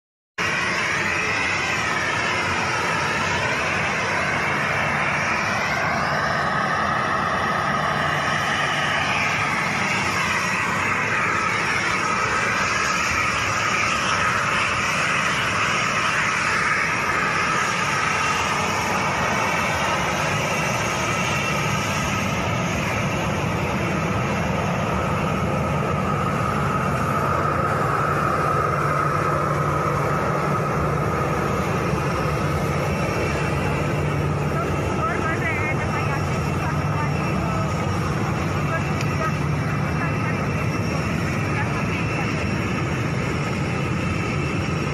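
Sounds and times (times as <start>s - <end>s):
jet engines whining: 0.4s - 44.9s.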